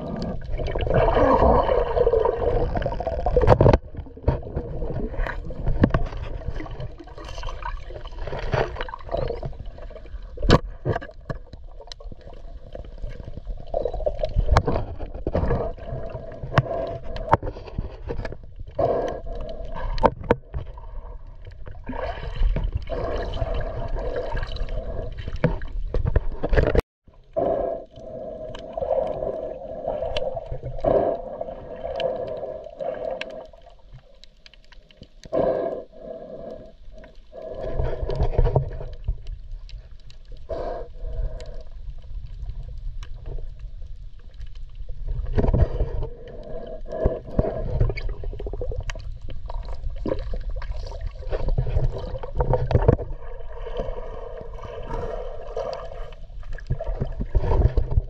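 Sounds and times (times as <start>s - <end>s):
water gurgling underwater: 0.0s - 58.0s.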